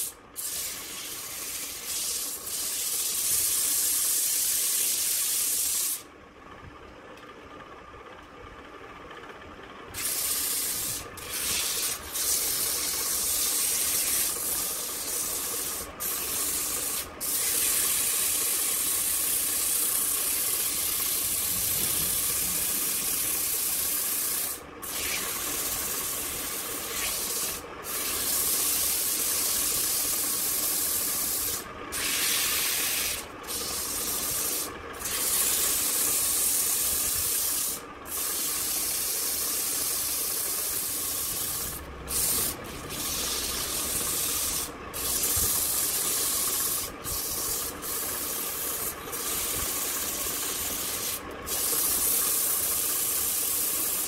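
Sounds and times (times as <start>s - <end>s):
sandpaper hissing on spinning wood: 0.0s - 6.1s, 10.0s - 54.0s.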